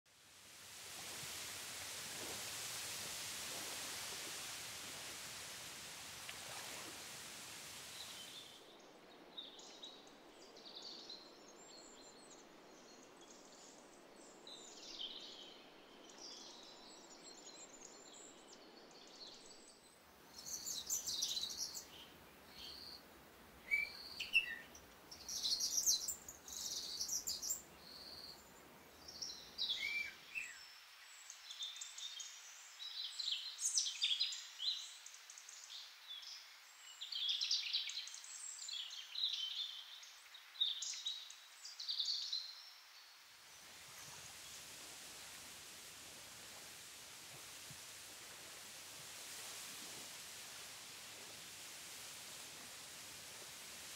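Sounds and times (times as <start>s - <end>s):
faint outdoor hiss: 0.1s - 53.9s.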